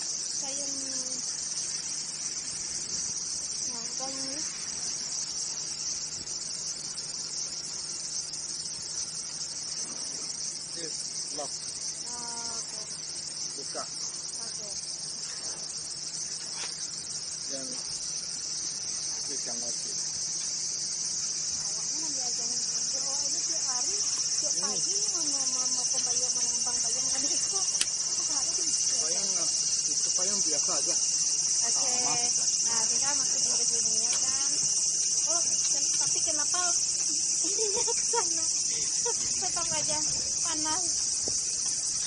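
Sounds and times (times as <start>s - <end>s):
insect chorus shrill drone: 0.0s - 42.0s.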